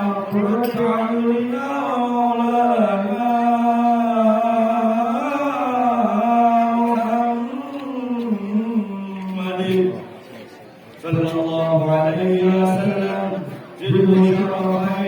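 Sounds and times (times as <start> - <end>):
man chanting through microphone: 0.0 - 15.0.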